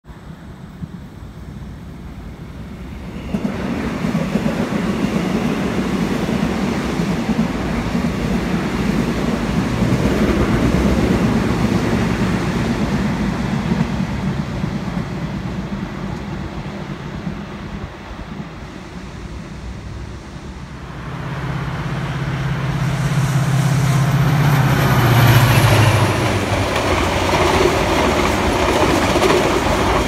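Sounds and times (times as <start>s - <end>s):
electric train rumbling on rails: 0.0s - 30.0s.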